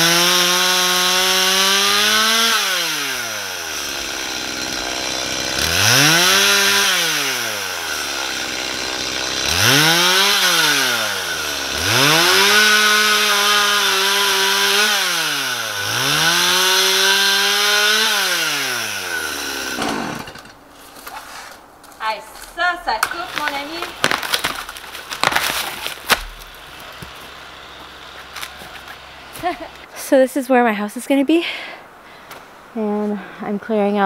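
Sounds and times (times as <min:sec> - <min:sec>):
chainsaw cutting logs: 0:00.0 - 0:21.2, 0:23.0 - 0:29.9.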